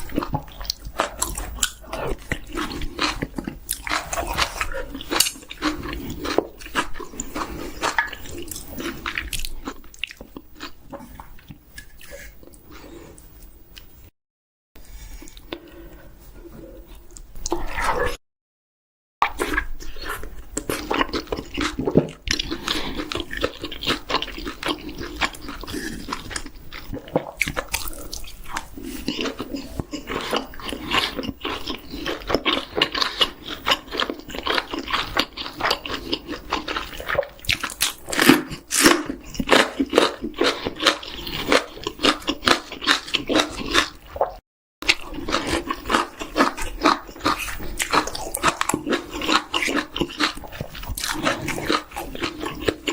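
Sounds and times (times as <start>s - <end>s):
person chewing chicken: 0.0s - 14.1s, 14.8s - 18.2s, 19.2s - 52.9s.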